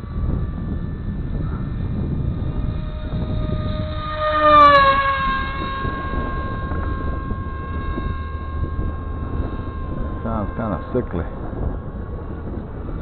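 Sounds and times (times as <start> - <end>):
electric propeller whining: 0.0 - 13.0
wind on microphone: 0.0 - 13.0.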